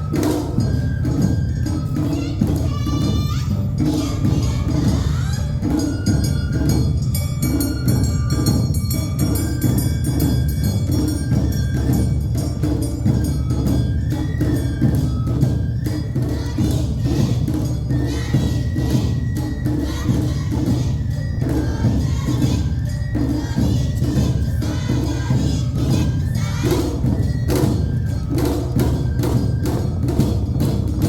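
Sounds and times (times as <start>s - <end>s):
drums beating: 0.0s - 31.0s.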